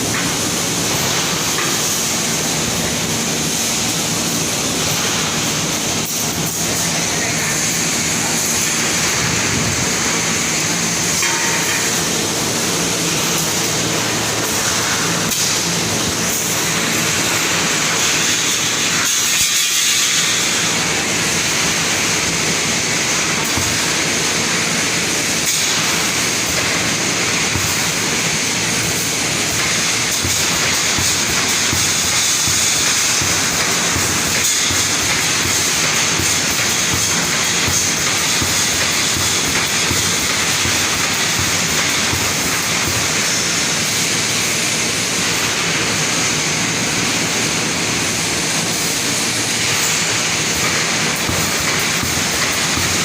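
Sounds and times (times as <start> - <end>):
welding machine running: 0.0 - 53.0.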